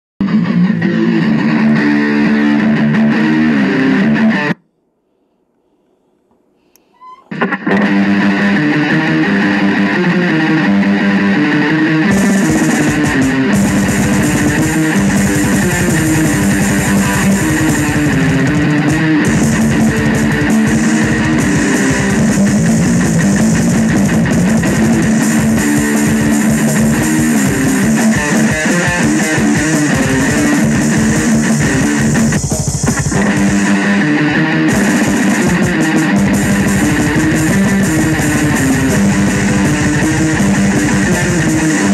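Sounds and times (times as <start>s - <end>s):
distorted electric guitar riffs: 0.2s - 4.6s, 6.9s - 41.9s
fast heavy metal drumming: 7.8s - 41.9s.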